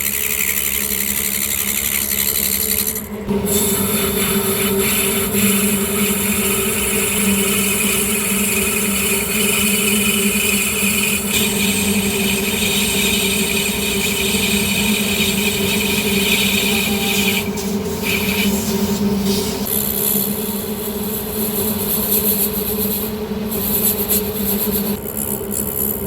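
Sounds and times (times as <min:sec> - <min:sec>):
metal lathe humming: 0:00.0 - 0:25.6
hiss of cutting: 0:03.3 - 0:25.0.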